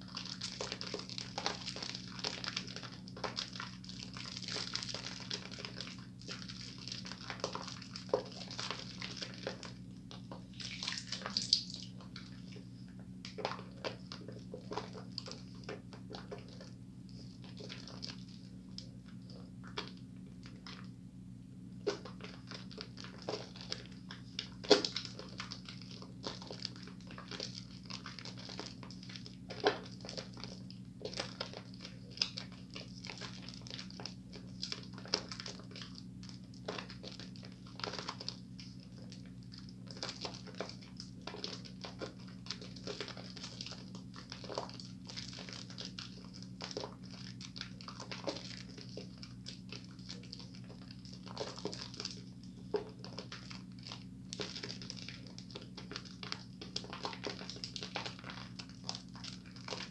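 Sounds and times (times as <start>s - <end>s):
soap lather squishing in hands: 0.0s - 21.0s, 21.6s - 59.9s
steady low hum: 0.0s - 59.9s.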